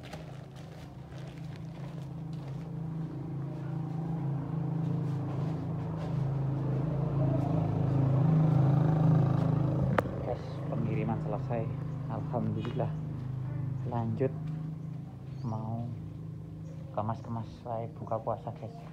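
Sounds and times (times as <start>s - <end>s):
motorcycle engine passing: 1.2s - 18.4s.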